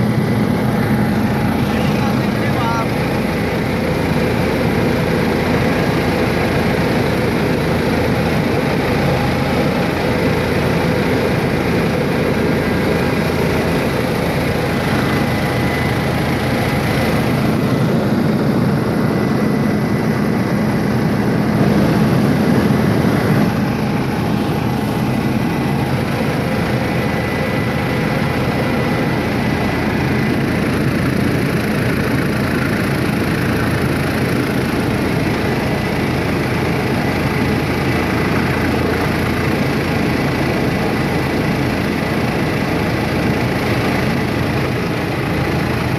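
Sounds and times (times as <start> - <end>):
helicopter cabin drone: 0.0 - 45.9.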